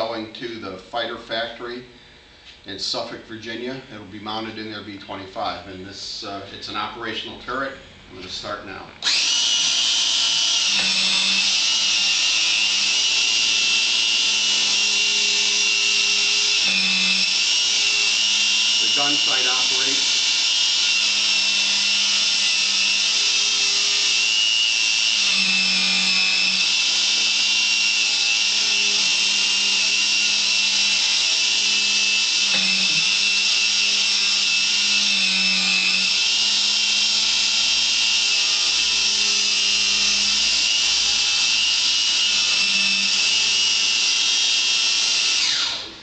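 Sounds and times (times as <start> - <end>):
motor whine: 7.2 - 46.0.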